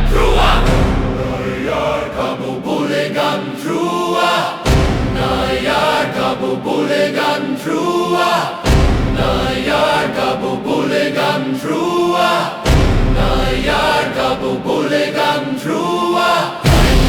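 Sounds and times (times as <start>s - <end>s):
choir chanting: 0.0s - 17.0s.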